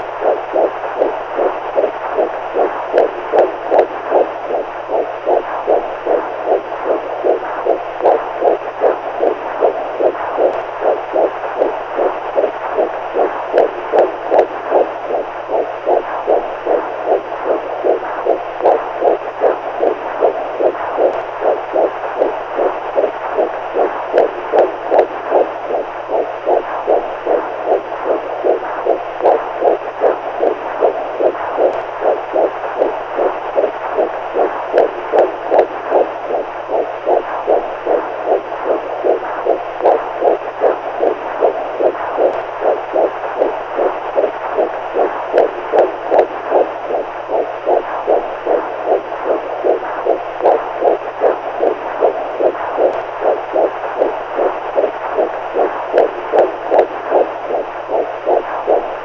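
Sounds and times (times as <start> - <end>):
heartbeat: 0.0 - 59.0
low hum: 0.0 - 59.0.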